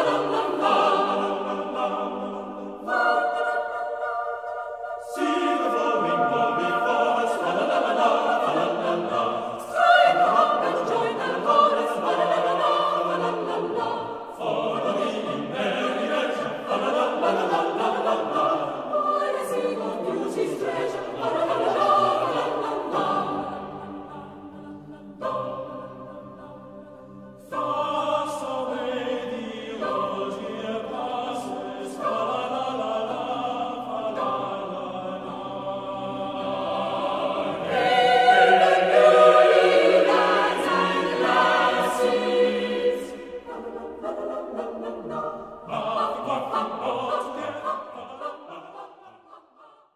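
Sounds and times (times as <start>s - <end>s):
choir singing: 0.0s - 49.9s.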